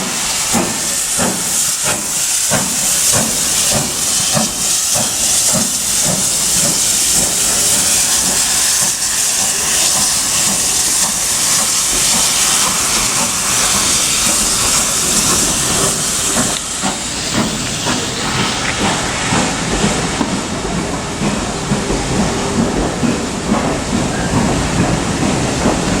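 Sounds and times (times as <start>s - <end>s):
loud steam hiss: 0.0s - 26.0s
steam locomotive exhaust beats: 0.0s - 26.0s.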